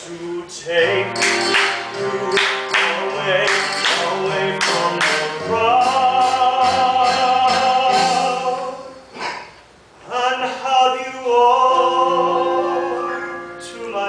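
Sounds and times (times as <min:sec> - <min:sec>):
man singing: 0:00.0 - 0:09.1, 0:10.0 - 0:14.0.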